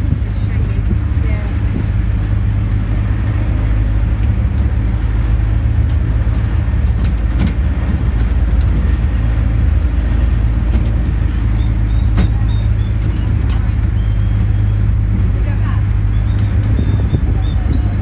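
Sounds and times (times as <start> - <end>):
low engine drone: 0.0 - 18.0
road rumble: 0.0 - 18.0
light clicks and rattles: 0.1 - 18.0.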